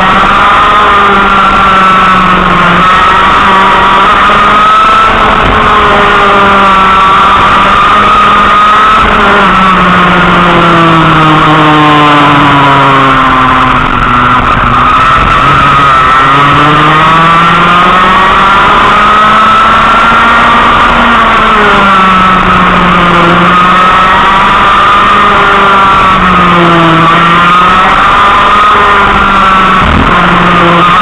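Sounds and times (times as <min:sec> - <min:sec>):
kart engine at full throttle: 0:00.0 - 0:31.0.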